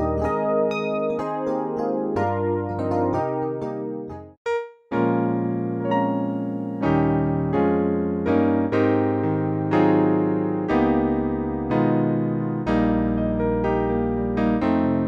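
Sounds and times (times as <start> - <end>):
electric piano sustained chords: 0.0 - 4.2, 5.0 - 15.0.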